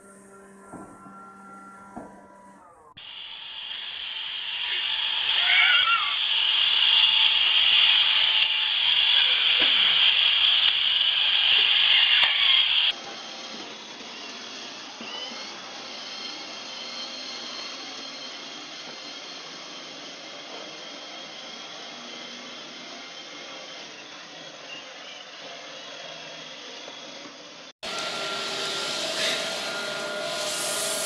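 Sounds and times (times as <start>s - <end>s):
high-pitched whine: 0.0s - 31.0s
robot vacuum motor whirr: 3.1s - 31.0s.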